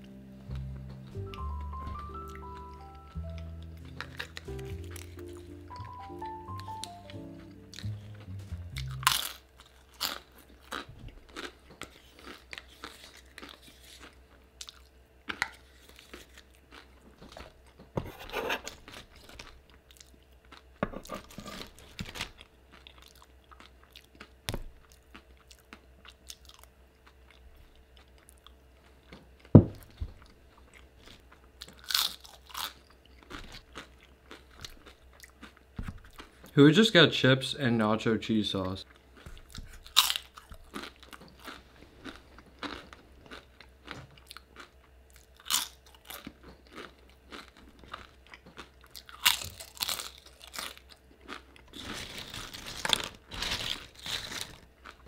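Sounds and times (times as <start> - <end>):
crunching and chewing chips: 1.3 - 37.0, 38.6 - 55.0.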